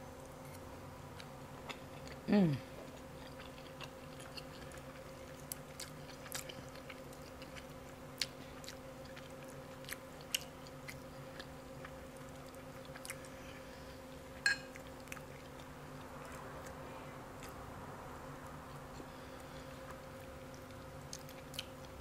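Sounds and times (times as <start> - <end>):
steady low hum: 0.0 - 22.0
person chewing food: 0.5 - 17.7, 18.4 - 22.0.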